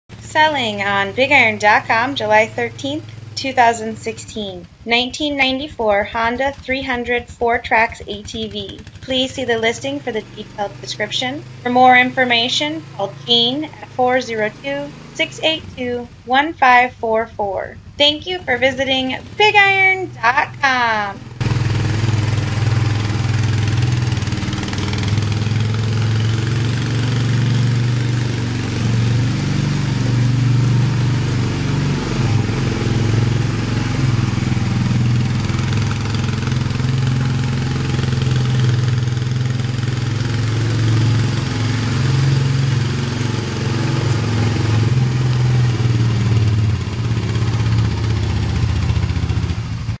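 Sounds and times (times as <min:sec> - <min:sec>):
quad bike engine running: 0:00.0 - 0:50.0.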